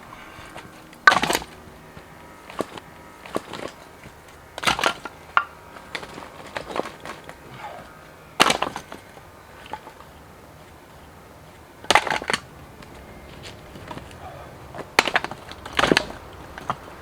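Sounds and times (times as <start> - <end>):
wooden knocks and clatter: 0.2 - 17.0.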